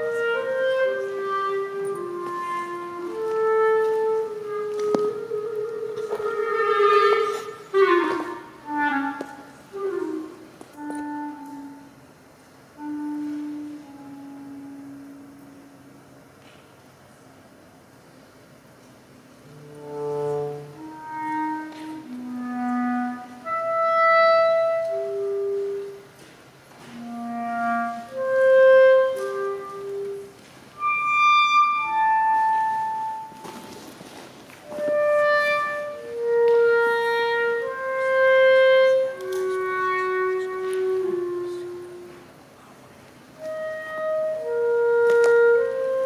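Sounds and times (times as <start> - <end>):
solo clarinet: 0.0 - 16.6, 19.3 - 46.0.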